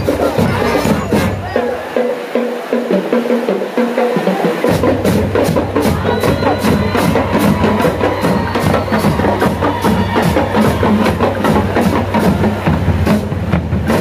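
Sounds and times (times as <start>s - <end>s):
marching band drumming: 0.0s - 14.0s.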